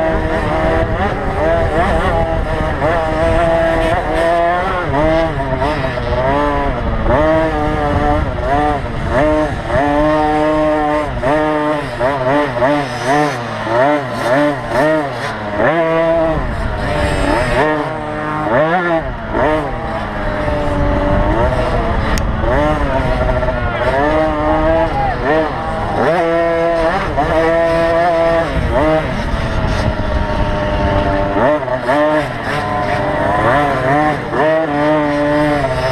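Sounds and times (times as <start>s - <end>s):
two-stroke motorbike engines revving: 0.0s - 35.9s.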